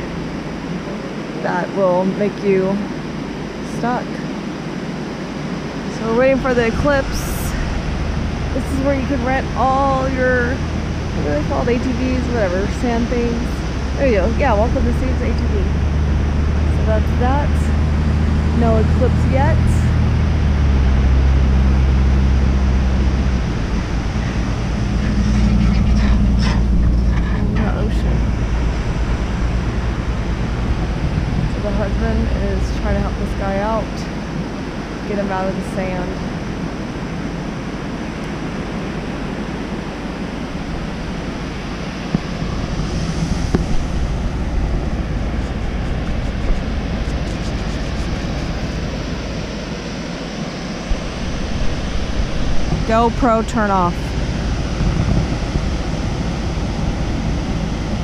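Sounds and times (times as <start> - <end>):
ocean surf: 0.0 - 58.0
vehicle engine droning: 0.0 - 58.0
wind: 0.0 - 58.0.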